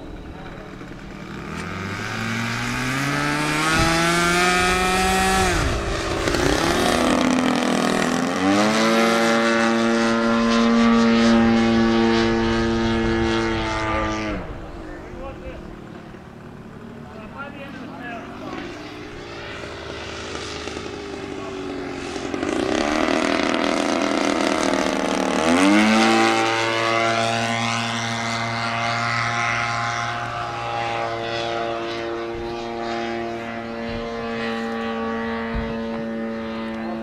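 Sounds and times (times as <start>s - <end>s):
model plane engine buzzing: 0.0s - 37.0s.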